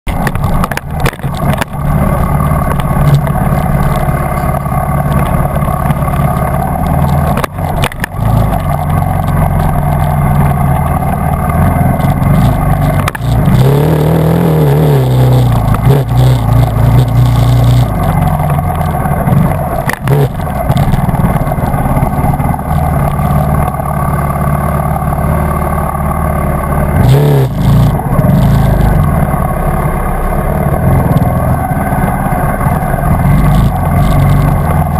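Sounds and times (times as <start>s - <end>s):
dirt bike engine revving: 0.4s - 34.9s.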